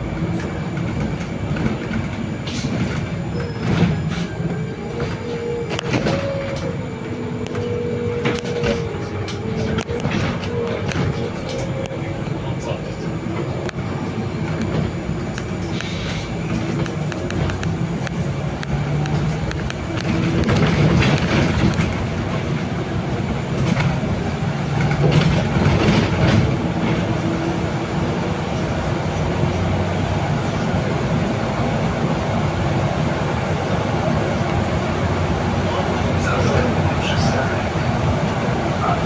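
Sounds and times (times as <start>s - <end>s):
bus engine running: 0.0s - 39.0s.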